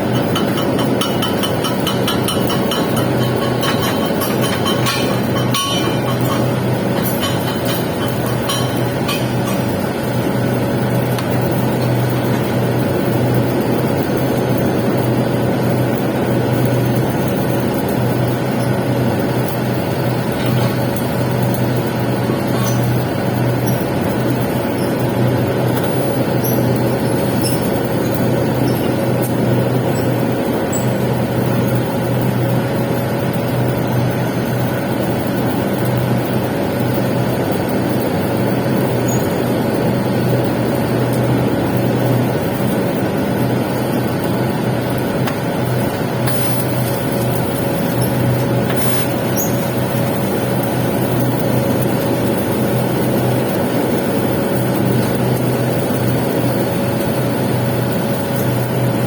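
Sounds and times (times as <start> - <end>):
arc welding: 0.0 - 59.0
low machine hum: 0.0 - 59.0.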